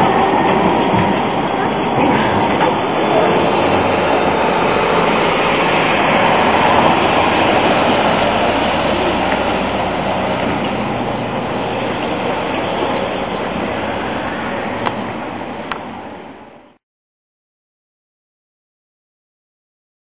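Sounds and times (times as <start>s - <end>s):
delivery van driving past: 0.0s - 16.8s.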